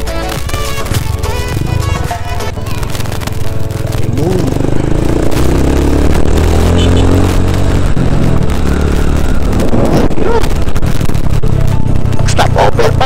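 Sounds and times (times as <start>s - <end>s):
wind and road rush: 0.0s - 13.0s
motorcycle engine accelerating: 0.6s - 13.0s.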